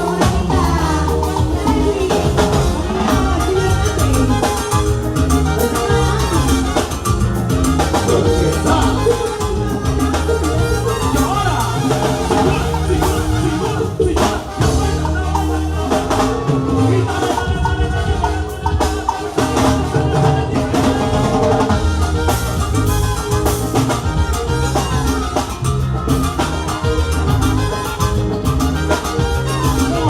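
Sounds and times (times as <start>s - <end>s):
latin dance band playing: 0.0s - 30.0s.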